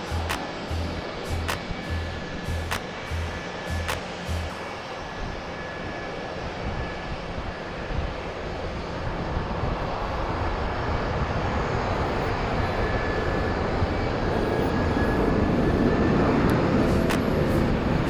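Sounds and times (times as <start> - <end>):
jet airliner engines at takeoff: 0.0 - 18.0.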